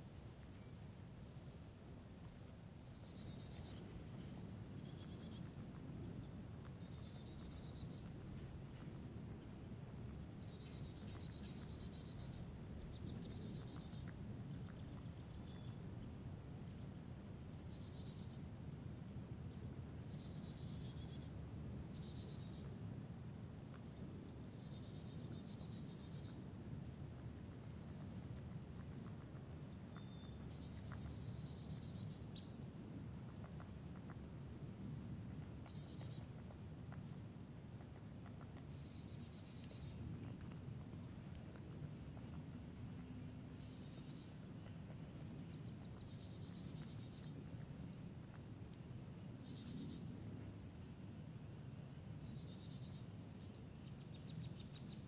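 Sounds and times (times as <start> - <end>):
faint low rumble: 0.0 - 55.0.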